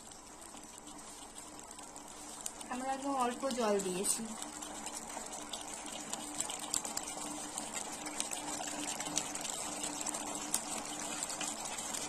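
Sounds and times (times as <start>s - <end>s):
curry bubbling in a pan: 0.0s - 12.0s
faint steady hum: 0.0s - 12.0s.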